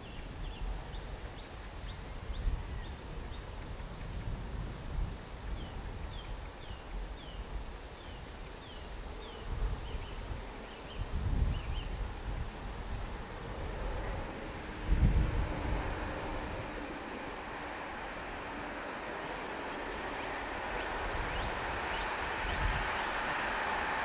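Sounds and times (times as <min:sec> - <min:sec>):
wind gusting on microphone: 0:00.0 - 0:24.0.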